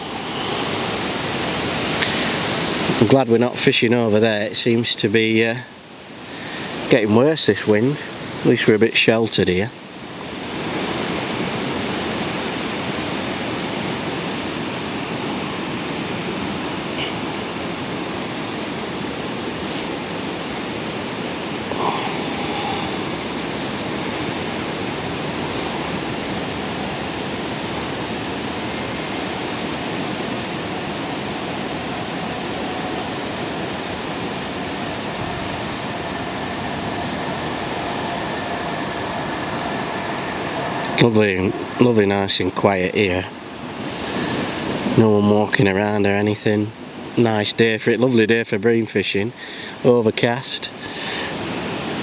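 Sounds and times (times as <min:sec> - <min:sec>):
wind rushing across microphone: 0:00.0 - 0:47.8.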